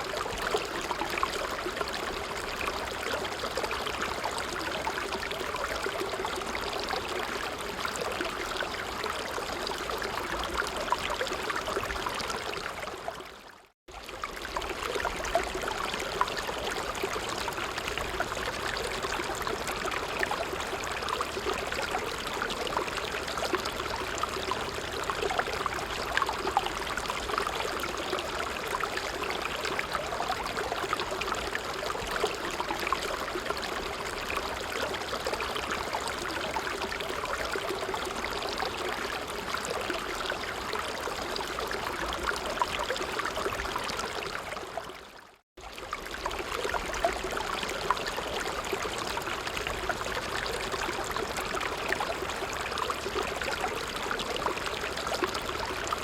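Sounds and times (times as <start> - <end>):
creek water babbling: 0.0 - 56.0.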